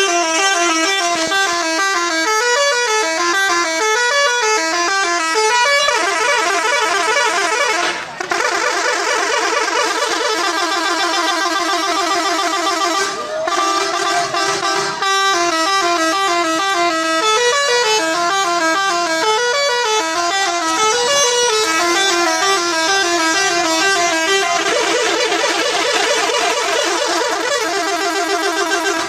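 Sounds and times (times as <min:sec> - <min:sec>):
multi-tone air horn melody: 0:00.0 - 0:29.0.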